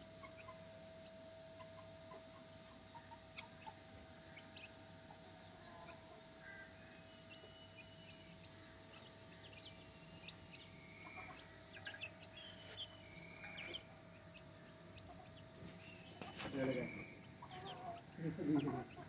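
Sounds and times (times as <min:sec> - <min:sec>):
chicks cheeping: 0:00.0 - 0:19.0.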